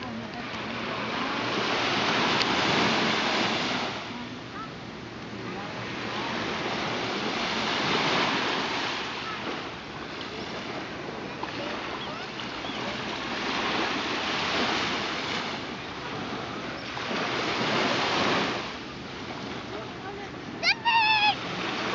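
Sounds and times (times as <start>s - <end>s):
waves washing on sandy beach: 0.0s - 21.9s.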